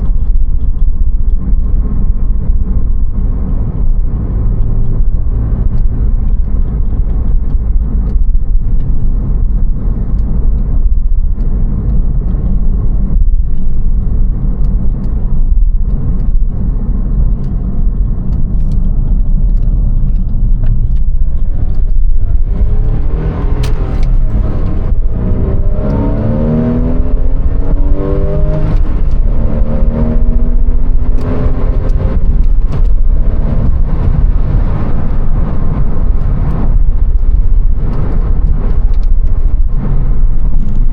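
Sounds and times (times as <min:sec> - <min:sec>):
car engine rumbling and revving: 0:00.0 - 0:40.9.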